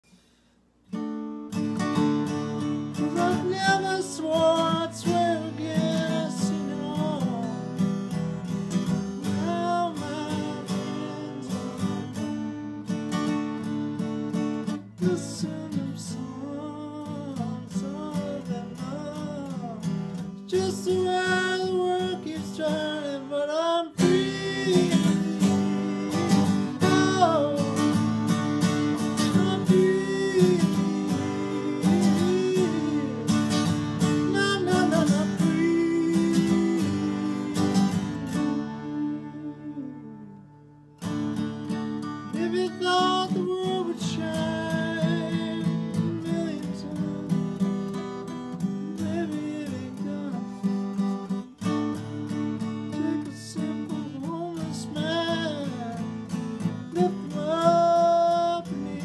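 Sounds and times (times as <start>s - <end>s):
acoustic guitar strumming: 0.1s - 59.0s
man singing: 2.5s - 8.0s, 8.6s - 12.6s, 14.6s - 40.6s, 42.1s - 59.0s.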